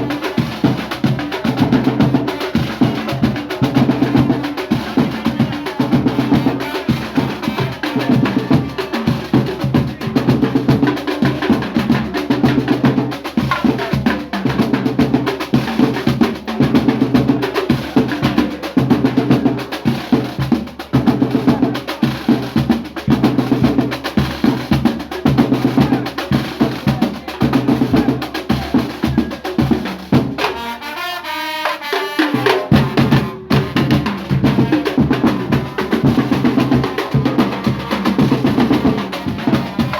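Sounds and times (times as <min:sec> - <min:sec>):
fast drum beat: 0:00.0 - 0:30.8, 0:31.7 - 0:39.9.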